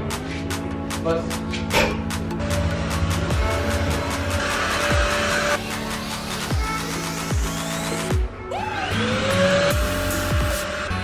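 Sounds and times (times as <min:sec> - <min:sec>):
electronic music with held tones: 0:00.0 - 0:11.0.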